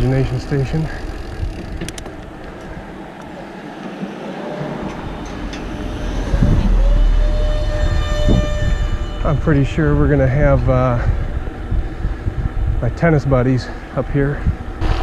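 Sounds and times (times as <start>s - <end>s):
bike riding noise: 0.0s - 15.0s
thin steady whine: 0.0s - 15.0s
wind buffeting microphone: 0.0s - 15.0s.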